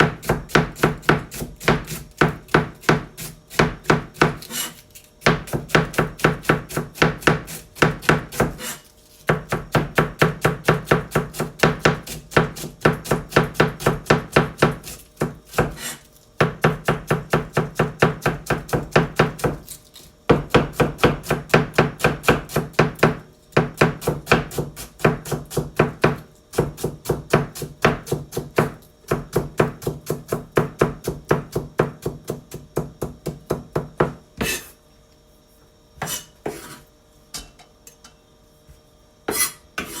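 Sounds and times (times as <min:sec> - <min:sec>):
knife chopping cabbage on board: 0:00.0 - 0:34.8, 0:36.0 - 0:36.8, 0:39.3 - 0:40.0.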